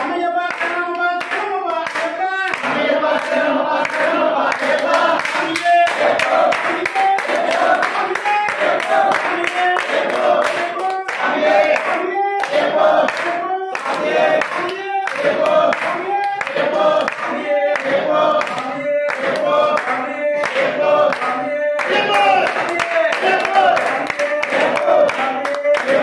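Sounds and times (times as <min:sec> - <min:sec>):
hands clapping to a beat: 0:00.0 - 0:26.0
men singing together: 0:00.0 - 0:26.0.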